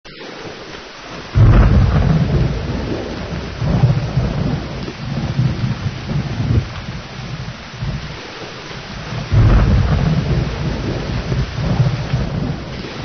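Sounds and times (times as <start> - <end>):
steady rain: 0.1 - 13.0
thunder rumbling: 0.1 - 13.0.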